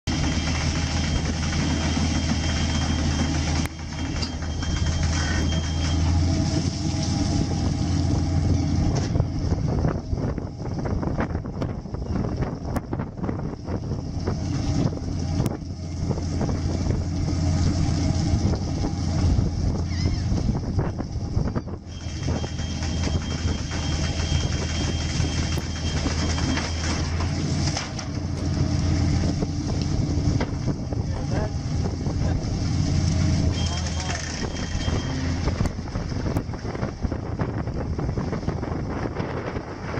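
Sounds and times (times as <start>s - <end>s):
boat engine humming: 0.0s - 39.9s
wind noise: 0.1s - 39.9s.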